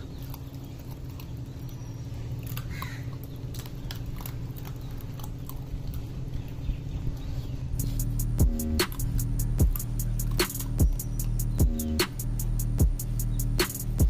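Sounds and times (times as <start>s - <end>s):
puppies chewing crunches: 0.0s - 12.2s
steady low hum: 0.0s - 14.0s.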